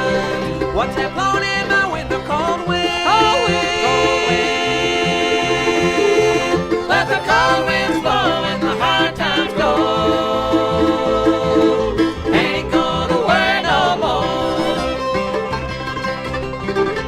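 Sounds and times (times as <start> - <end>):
banjo picking: 0.0 - 17.0
bluegrass band playing: 0.0 - 17.0.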